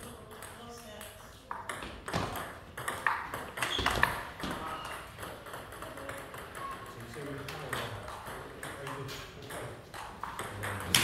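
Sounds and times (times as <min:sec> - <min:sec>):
table tennis ball clicking: 0:00.0 - 0:11.0.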